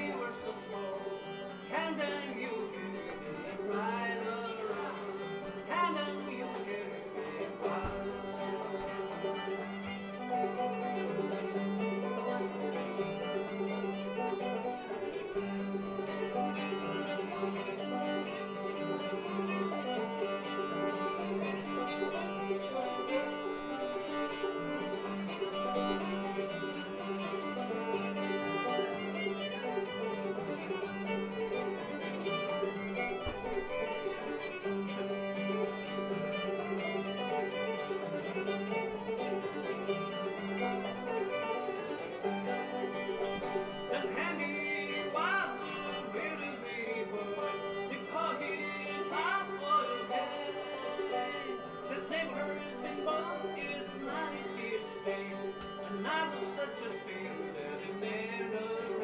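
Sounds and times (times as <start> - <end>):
fiddle melody: 0.0 - 59.0
plucked strings: 0.0 - 59.0
string band playing: 0.0 - 59.0.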